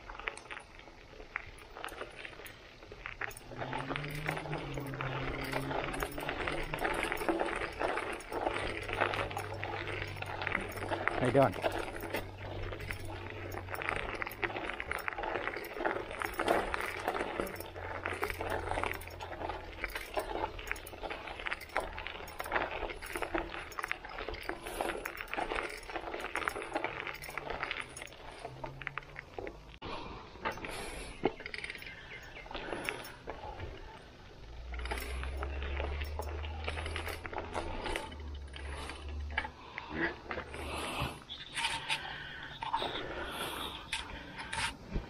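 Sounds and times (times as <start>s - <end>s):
bike rattling and clinking: 0.0s - 45.0s
tyres crunching on loose stones: 0.0s - 45.0s.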